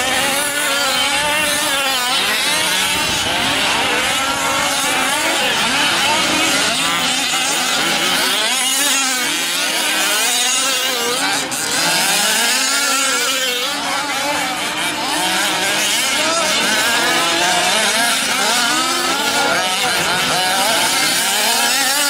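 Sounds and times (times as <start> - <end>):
small two-stroke engines whining: 0.0 - 22.0.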